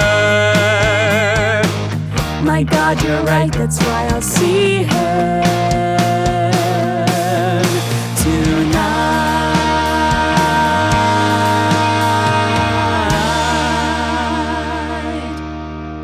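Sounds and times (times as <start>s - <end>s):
rock band playing closing chord: 0.0s - 16.0s.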